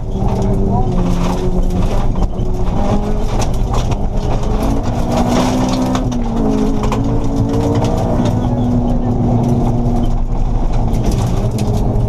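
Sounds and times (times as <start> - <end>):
car engine revving hard: 0.0 - 12.0
gravel pinging against underbody: 0.0 - 12.0.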